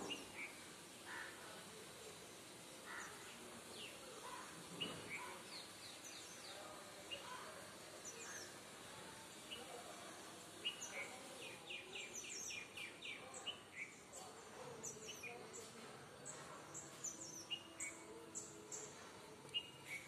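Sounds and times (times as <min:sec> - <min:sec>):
faint background noise: 0:00.0 - 0:20.0
small birds chirping: 0:00.0 - 0:20.0.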